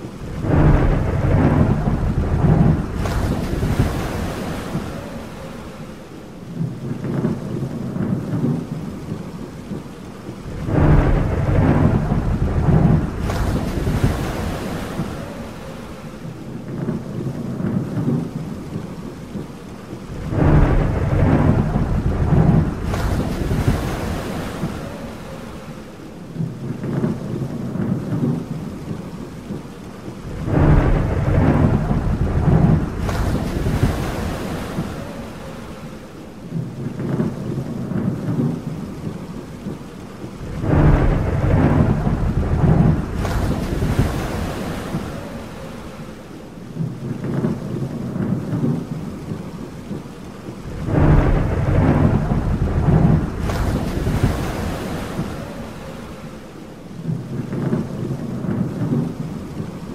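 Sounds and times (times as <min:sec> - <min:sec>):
steady rain: 0:00.0 - 0:59.9
thunder rumbling: 0:00.0 - 0:59.9.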